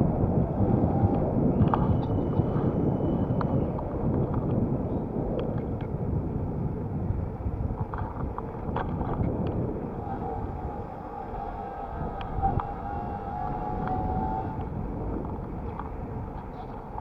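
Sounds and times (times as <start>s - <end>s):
faint steady whine: 0.0s - 17.0s
rumbling road noise: 0.0s - 17.0s
wind buffeting microphone: 0.0s - 17.0s.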